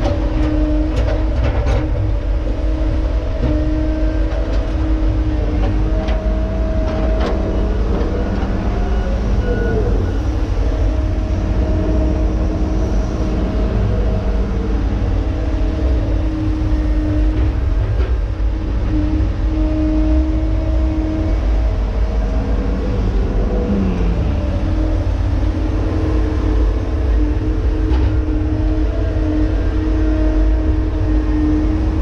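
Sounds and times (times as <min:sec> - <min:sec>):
diesel engine rumble: 0:00.0 - 0:32.0
hydraulic whine: 0:00.0 - 0:32.0.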